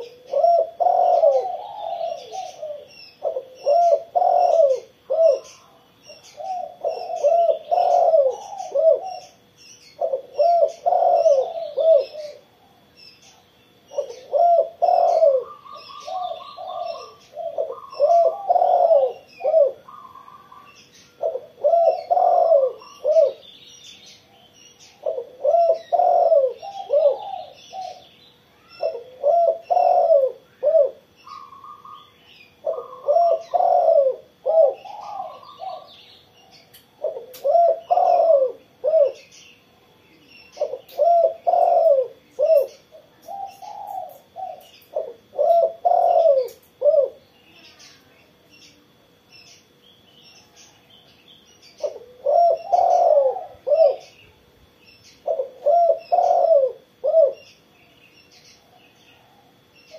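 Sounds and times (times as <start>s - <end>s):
dove cooing: 0.0s - 48.1s, 51.6s - 54.4s, 55.0s - 57.6s, 58.4s - 59.9s
small birds chirping: 0.0s - 59.9s.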